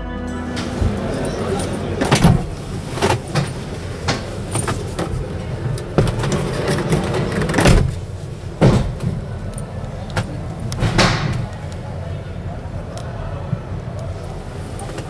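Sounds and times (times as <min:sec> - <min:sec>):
busy exhibition hall din: 0:00.0 - 0:15.0.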